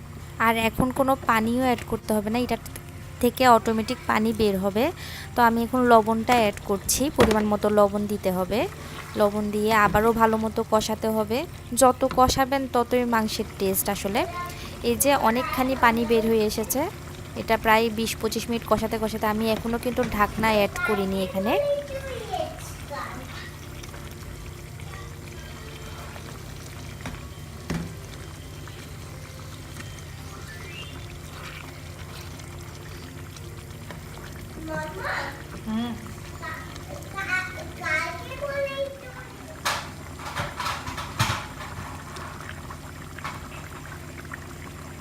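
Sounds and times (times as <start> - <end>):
meat sizzling and bubbling in pan: 0.0 - 45.0.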